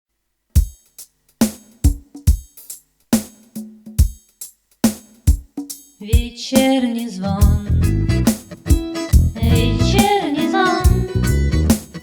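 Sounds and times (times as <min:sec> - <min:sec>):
drum beat with deep kick: 0:00.6 - 0:12.0.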